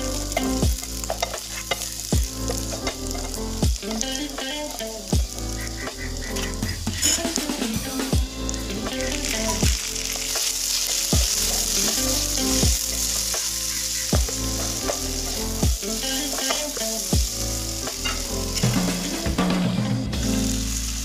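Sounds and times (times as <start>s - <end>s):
background music with steady beat: 0.0s - 21.0s
food sizzling in a pan: 0.0s - 21.0s.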